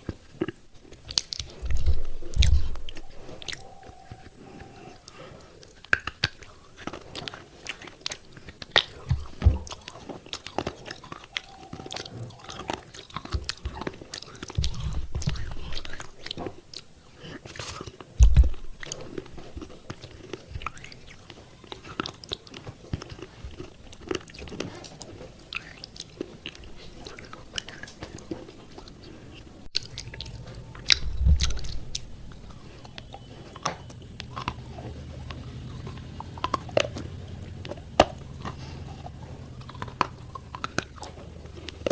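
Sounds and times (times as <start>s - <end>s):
chewing fired clay pieces: 0.0s - 41.9s.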